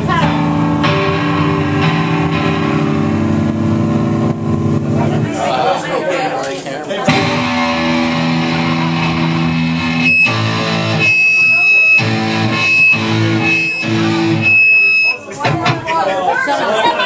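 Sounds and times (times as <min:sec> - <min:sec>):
amplified guitar chords: 0:00.0 - 0:05.7, 0:07.1 - 0:15.2.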